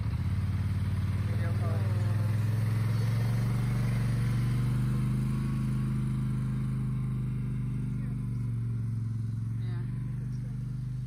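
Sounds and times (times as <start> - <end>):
atv engine pulling away: 0.0 - 11.0.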